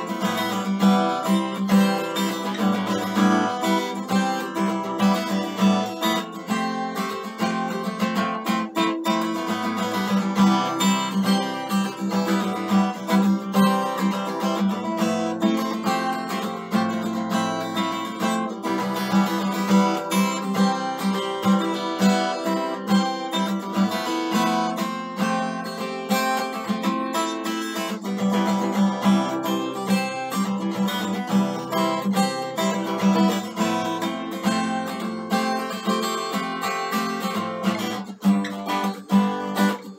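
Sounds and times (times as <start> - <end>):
acoustic guitar strummed: 0.0 - 39.9.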